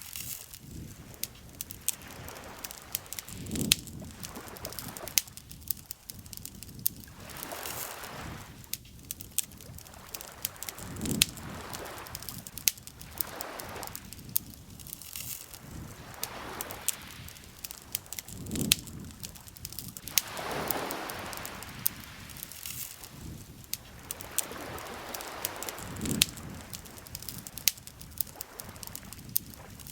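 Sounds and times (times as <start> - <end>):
campfire crackling and popping: 0.0 - 29.9
lake water lapping: 0.6 - 6.1, 7.1 - 8.6, 9.5 - 14.2, 15.3 - 27.6.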